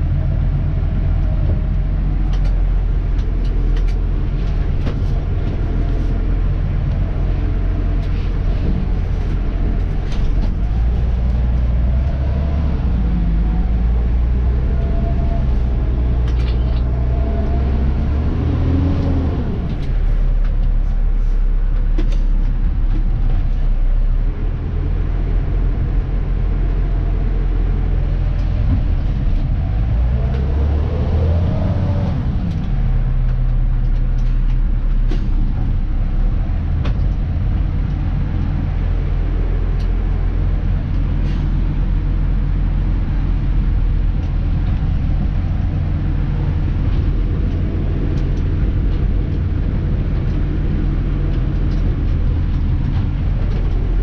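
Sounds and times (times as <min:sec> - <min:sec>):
drivetrain whine: 0:00.0 - 0:54.0
truck engine droning: 0:00.0 - 0:54.0
rattles and clicks: 0:00.1 - 0:13.6, 0:14.8 - 0:23.8, 0:31.2 - 0:54.0.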